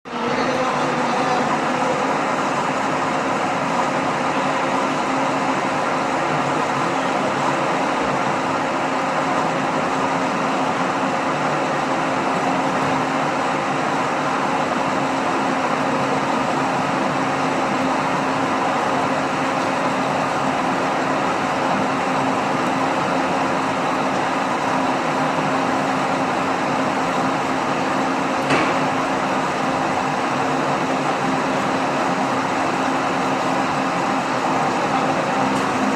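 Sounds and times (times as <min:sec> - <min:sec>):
metal lathe running: 0:00.1 - 0:35.9.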